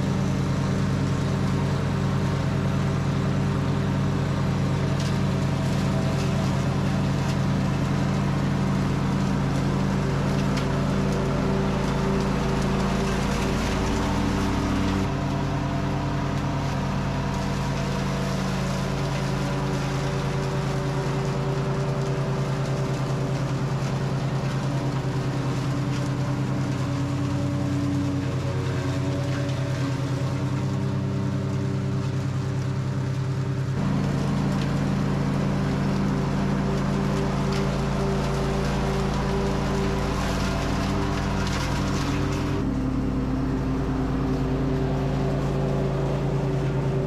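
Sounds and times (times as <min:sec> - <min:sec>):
lawn tractor engine running: 0:00.0 - 0:47.0
mower picking up leaves and twigs: 0:00.0 - 0:47.0.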